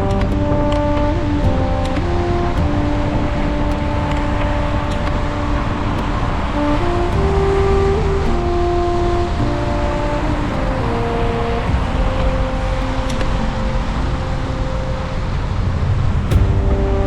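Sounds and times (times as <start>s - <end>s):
city traffic rumble: 0.0s - 17.0s
soft background music: 0.0s - 17.0s
wind and tyre noise: 0.0s - 17.0s.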